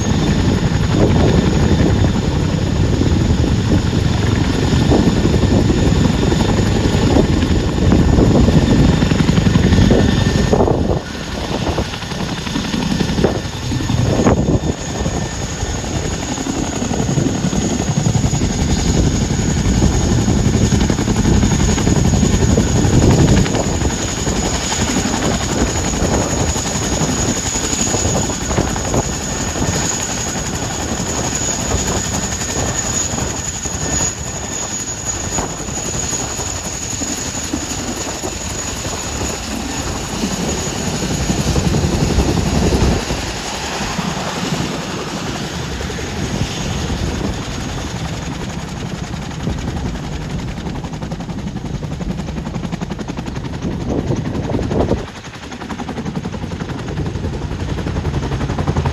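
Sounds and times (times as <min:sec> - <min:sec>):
helicopter rotor beat: 0:00.0 - 0:58.9
high turbine whine: 0:00.0 - 0:58.9.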